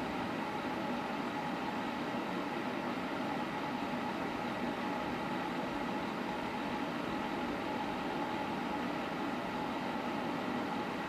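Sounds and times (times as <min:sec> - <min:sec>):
heater fan whirring hum: 0:00.0 - 0:11.0.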